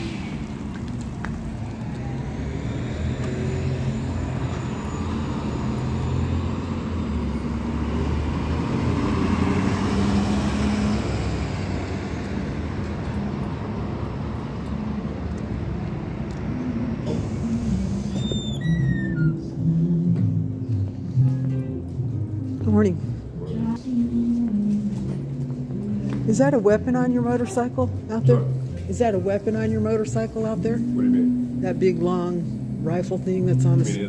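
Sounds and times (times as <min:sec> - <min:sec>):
cars driving past: 0:00.0 - 0:24.4, 0:25.0 - 0:34.0.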